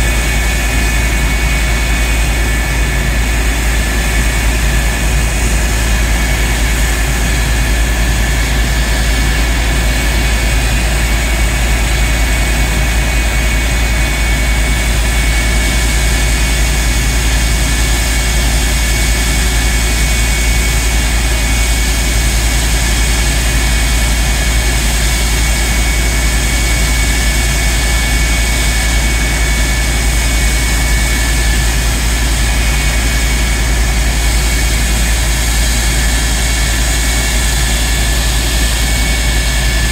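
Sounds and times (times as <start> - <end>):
jet engine idling: 0.0 - 39.9.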